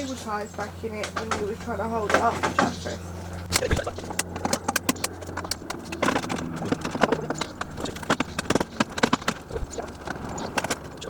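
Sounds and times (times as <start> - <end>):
hand tools clicking and knocking: 0.0 - 11.0.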